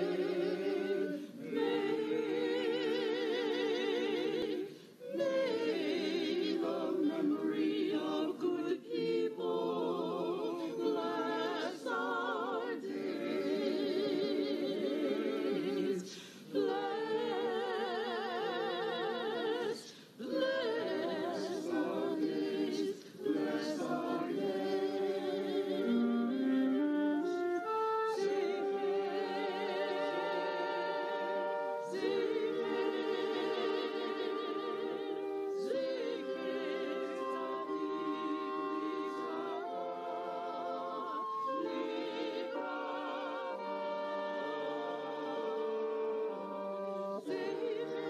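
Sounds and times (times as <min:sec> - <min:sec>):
mixed choir singing a cappella: 0:00.0 - 0:48.0.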